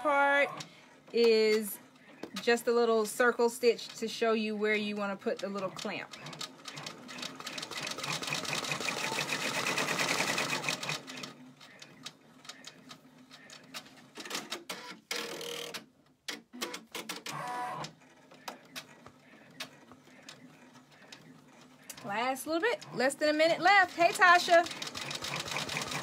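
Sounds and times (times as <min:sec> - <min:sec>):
embroidery machine needle clatter: 0:00.5 - 0:26.0.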